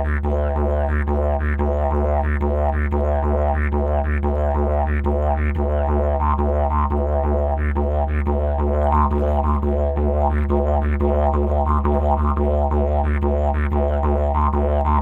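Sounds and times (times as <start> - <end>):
didgeridoo droning: 0.0 - 15.0.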